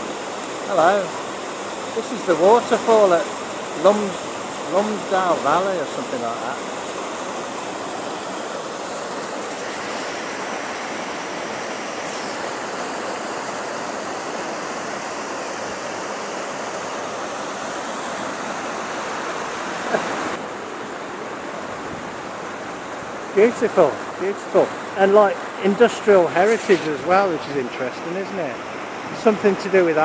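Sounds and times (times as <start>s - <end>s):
waterfall rushing over rocks: 0.0s - 30.0s.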